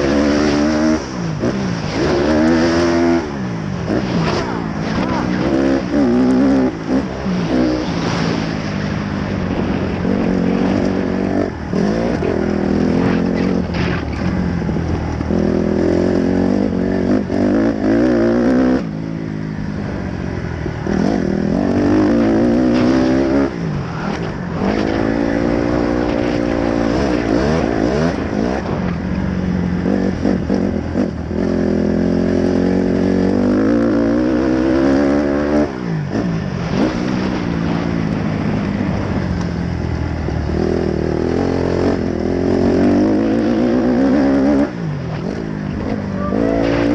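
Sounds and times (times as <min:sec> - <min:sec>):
dirt bike engine revving: 0:00.0 - 0:19.2, 0:19.8 - 0:39.2, 0:40.4 - 0:46.9.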